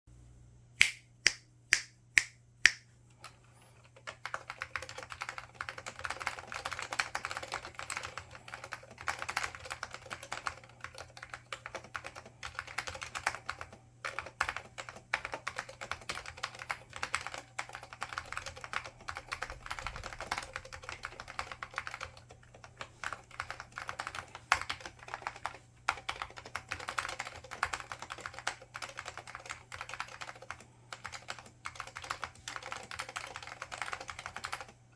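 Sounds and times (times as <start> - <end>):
fast typing on keyboard: 3.2 - 34.8.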